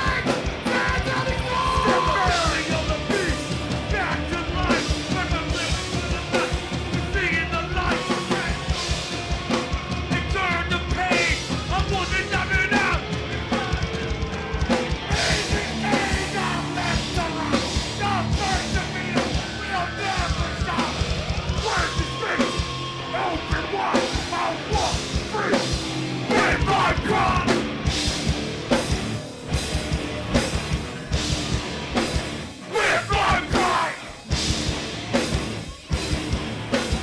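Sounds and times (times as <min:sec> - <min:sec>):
drum kit: 0:00.0 - 0:37.0
punk rock band playing: 0:00.0 - 0:37.0
yelled vocals: 0:00.0 - 0:37.0.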